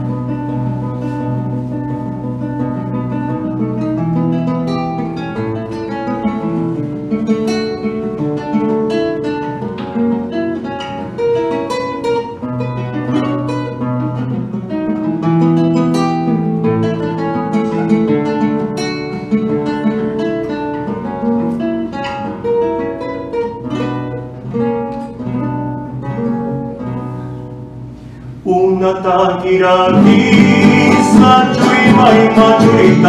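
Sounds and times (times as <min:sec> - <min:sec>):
classical guitar playing: 0:00.0 - 0:33.0.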